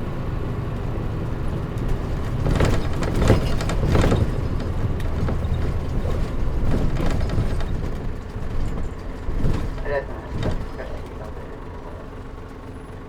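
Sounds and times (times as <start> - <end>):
bus diesel engine: 0.0 - 13.0
road noise: 0.0 - 13.0
rattles and knocks: 1.2 - 13.0.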